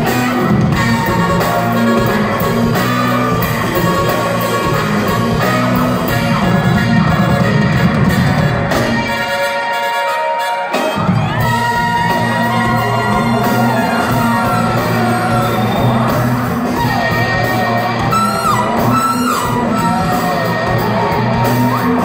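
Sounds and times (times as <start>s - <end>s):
funk band playing: 0.0s - 22.0s.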